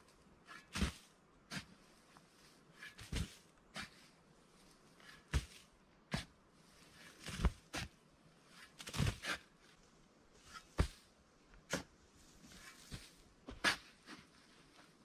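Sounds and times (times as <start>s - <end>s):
spade scraping sandy soil: 0.4s - 4.2s, 4.9s - 9.6s, 10.4s - 14.4s.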